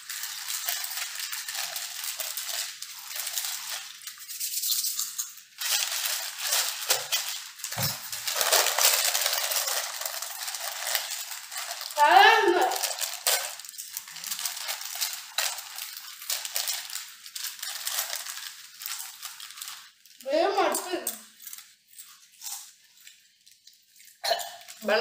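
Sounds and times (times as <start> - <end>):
foil chip packets crinkling: 0.0 - 25.0.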